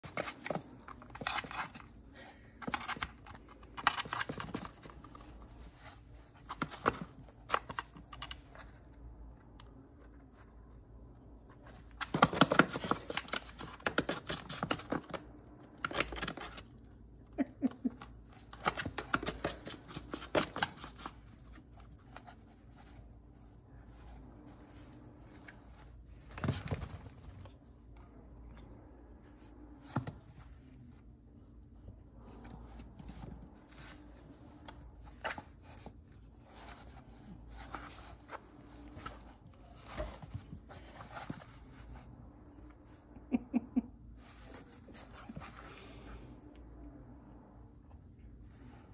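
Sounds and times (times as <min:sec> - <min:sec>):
cat rustling cardboard boxes: 0:00.0 - 0:09.0, 0:11.4 - 0:16.9, 0:17.6 - 0:27.7, 0:29.3 - 0:42.8, 0:44.2 - 0:46.4.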